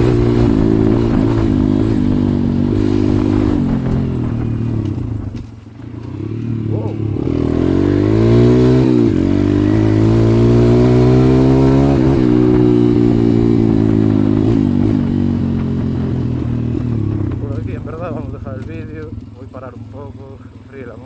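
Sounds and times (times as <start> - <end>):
motorbike engine accelerating: 0.0 - 21.0.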